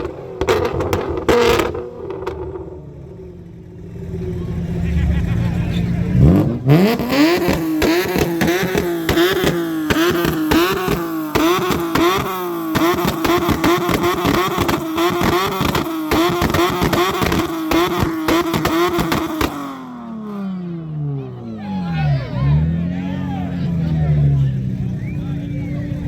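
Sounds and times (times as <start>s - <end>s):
car engine at high revs: 0.0s - 26.0s.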